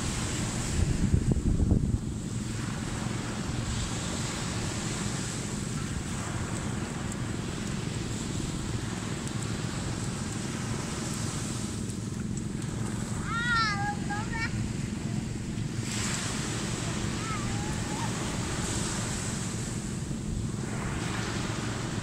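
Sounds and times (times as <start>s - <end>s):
ocean surf washing: 0.0s - 22.0s
wind buffeting microphone: 0.0s - 22.0s.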